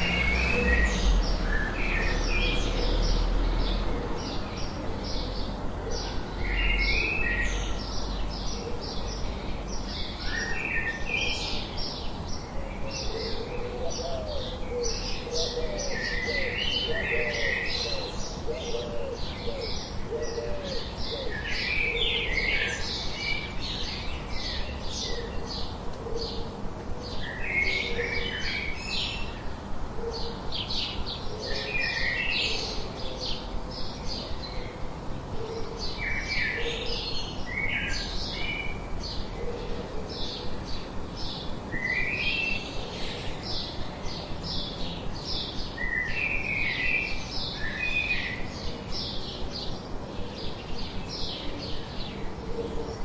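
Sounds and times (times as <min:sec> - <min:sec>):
birds chirping and singing: 0:00.0 - 0:53.0.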